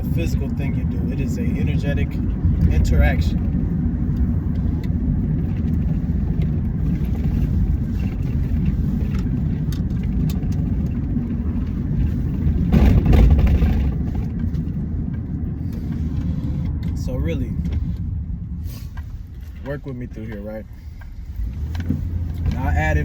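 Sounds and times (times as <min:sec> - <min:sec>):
car cabin rumble: 0:00.0 - 0:23.0.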